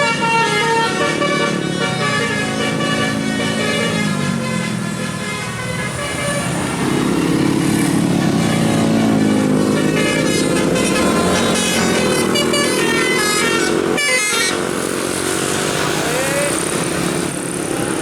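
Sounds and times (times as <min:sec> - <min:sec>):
multi-tone bus horn tune: 0:00.0 - 0:17.3
engine running: 0:00.0 - 0:18.0.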